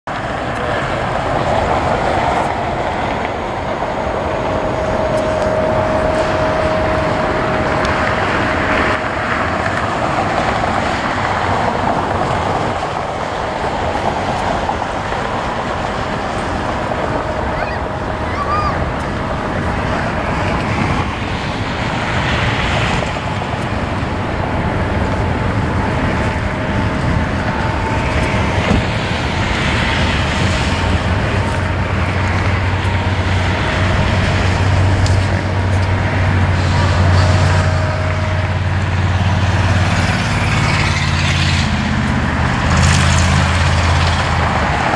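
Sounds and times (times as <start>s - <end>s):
distant jet engine roar: 0.0s - 44.9s
low hum: 0.1s - 44.9s
wind on microphone: 0.1s - 44.9s.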